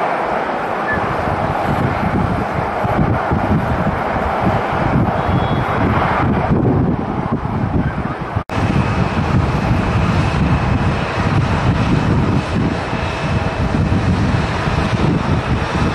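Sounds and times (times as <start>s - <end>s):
distant jet engines: 0.0s - 15.9s
high engine whine: 0.0s - 15.9s
wind buffeting microphone: 0.0s - 15.9s.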